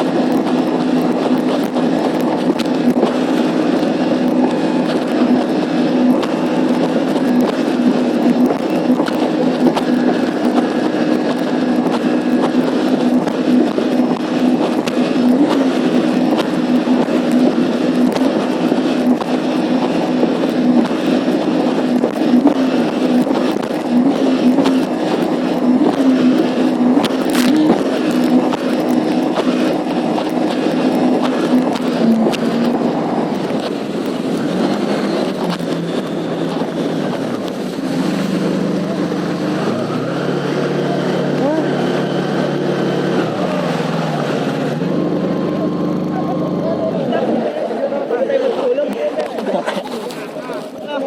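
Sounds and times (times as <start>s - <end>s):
wind and water rushing: 0.0s - 45.9s
jet ski engine running: 0.0s - 51.0s.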